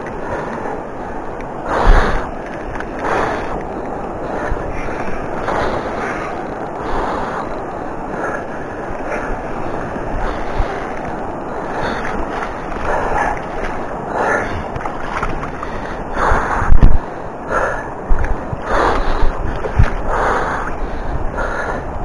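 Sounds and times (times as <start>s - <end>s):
river water flowing: 0.0s - 22.0s
wind buffeting microphone: 0.0s - 22.0s.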